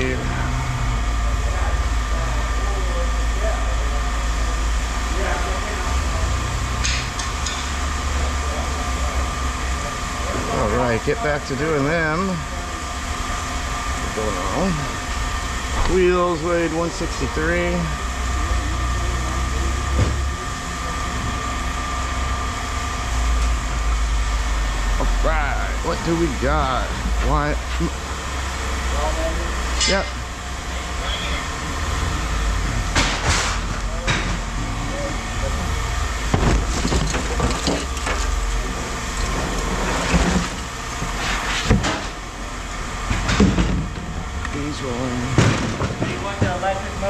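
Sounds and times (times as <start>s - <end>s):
constant whine: 0.0s - 47.0s
low machine drone: 0.0s - 47.0s.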